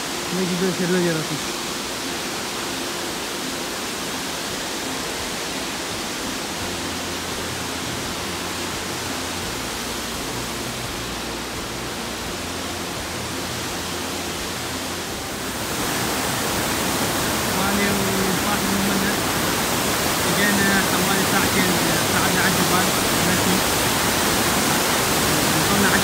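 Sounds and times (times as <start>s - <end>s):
waterfall: 0.0s - 26.0s
whitewater river over rocks: 0.0s - 26.0s.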